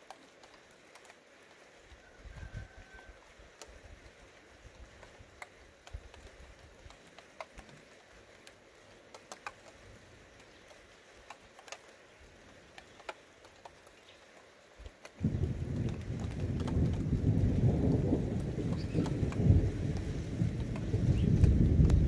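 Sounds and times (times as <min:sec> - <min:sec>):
raindrops ticking: 0:00.0 - 0:22.0.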